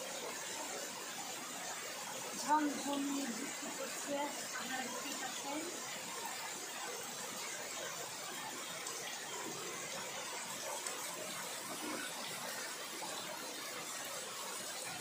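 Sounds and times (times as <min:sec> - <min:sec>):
heavy rain on tree foliage: 0:00.0 - 0:15.0.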